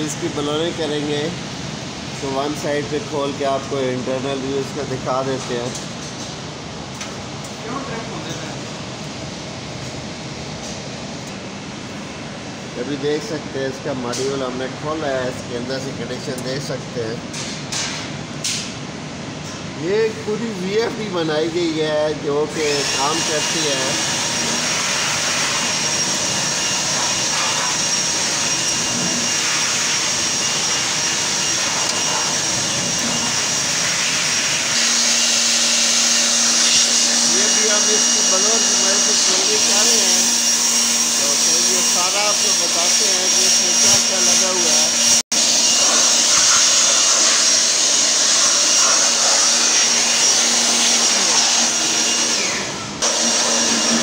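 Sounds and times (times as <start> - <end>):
machinery rushing air noise: 0.0 - 17.3, 18.0 - 54.0.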